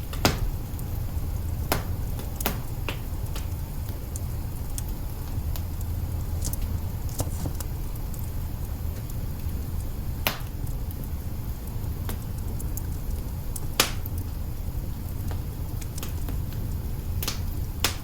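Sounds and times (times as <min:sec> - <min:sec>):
fire low rumble: 0:00.0 - 0:18.0
wood fire popping and snapping: 0:00.0 - 0:18.0.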